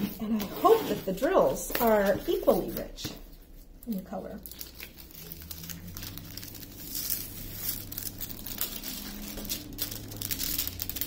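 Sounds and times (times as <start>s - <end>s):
plastic sheeting crinkling: 0.0s - 11.0s.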